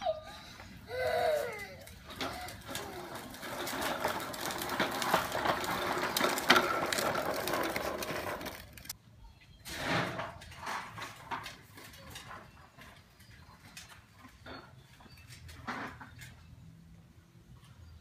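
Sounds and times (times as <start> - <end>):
plastic wheels rolling on concrete: 0.1 - 9.0, 9.6 - 18.0.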